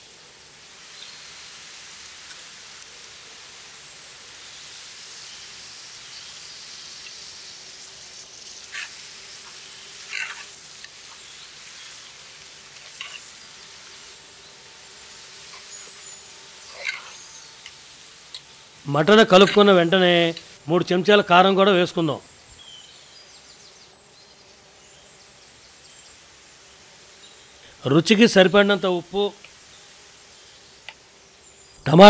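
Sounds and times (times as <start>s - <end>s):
meat sizzling in a pot: 0.0s - 21.6s, 22.3s - 31.8s.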